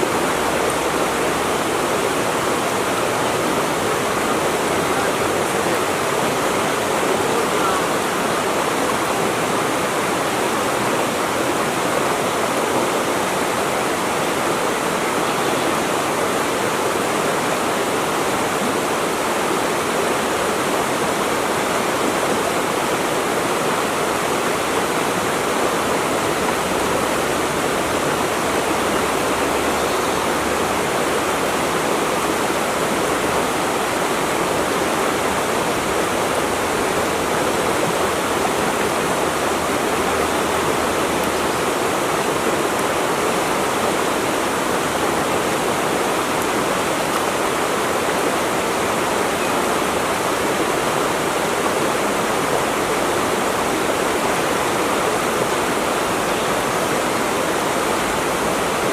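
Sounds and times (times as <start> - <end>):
running water rushing: 0.0 - 58.9.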